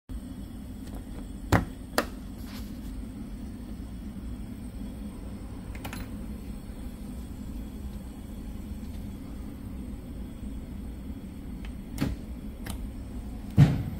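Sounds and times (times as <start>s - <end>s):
steady low hum: 0.1s - 13.9s.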